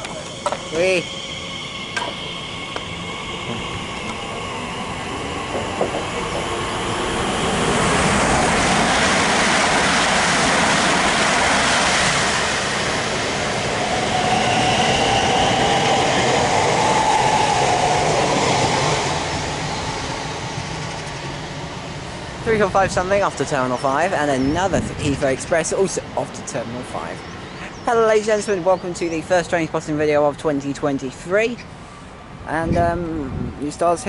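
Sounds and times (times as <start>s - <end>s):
train whine: 0.0s - 30.1s
electric trains rushing past: 0.0s - 34.0s.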